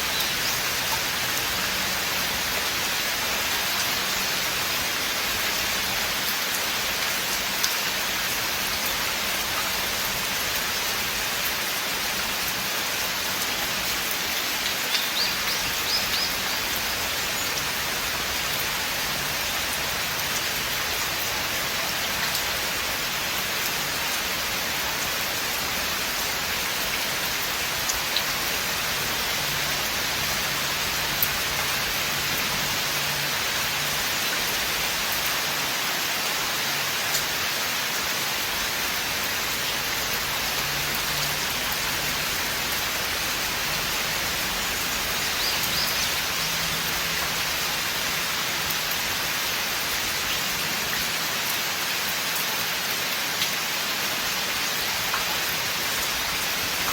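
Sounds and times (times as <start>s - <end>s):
rain falling in forest: 0.0s - 56.9s.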